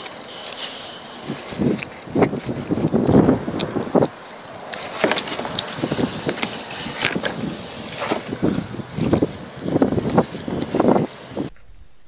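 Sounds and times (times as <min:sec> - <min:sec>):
gusty wind on microphone: 0:01.2 - 0:04.2, 0:05.2 - 0:12.0.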